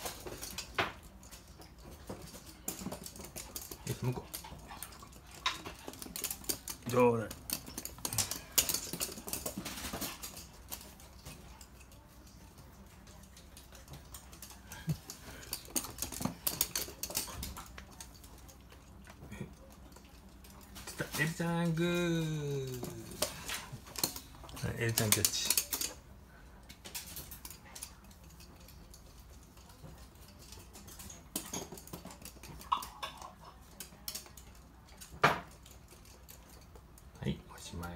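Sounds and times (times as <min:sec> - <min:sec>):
dog claws clicking on hard floor: 0:00.0 - 0:21.4, 0:22.6 - 0:26.0, 0:26.6 - 0:37.2.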